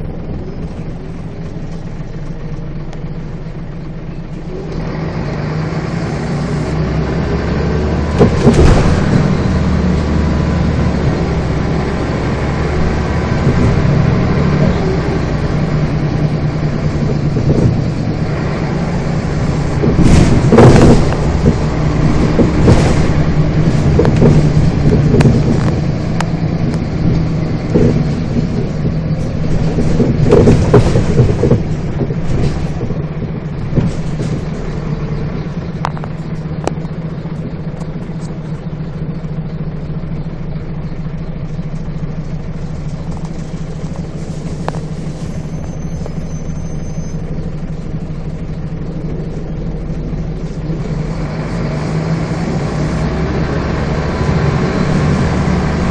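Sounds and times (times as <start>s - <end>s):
bus diesel engine humming: 0.0s - 55.9s.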